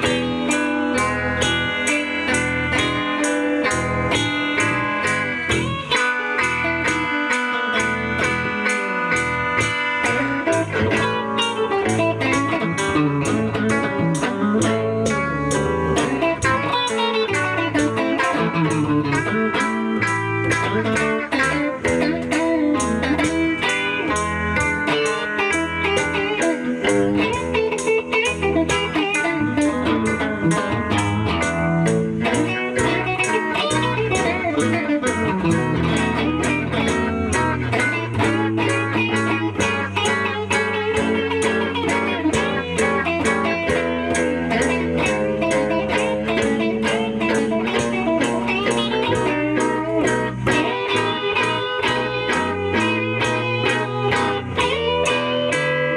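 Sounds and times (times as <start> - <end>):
blues guitar playing: 0.0 - 55.9.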